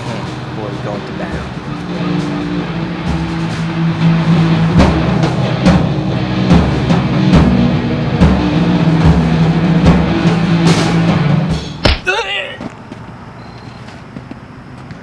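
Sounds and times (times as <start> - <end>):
steady drum beat: 0.0 - 12.4.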